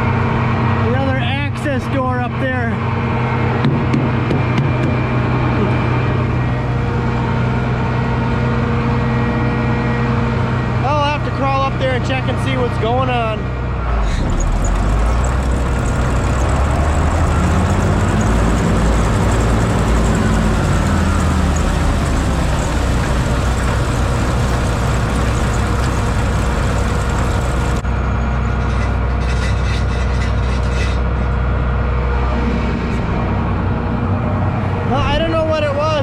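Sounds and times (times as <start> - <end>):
machinery whine: 0.0 - 35.7
combine harvester engine drone: 0.0 - 36.0.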